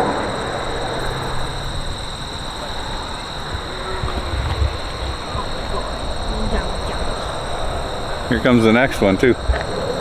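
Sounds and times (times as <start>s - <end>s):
distant jet engines rumbling: 0.0s - 10.0s.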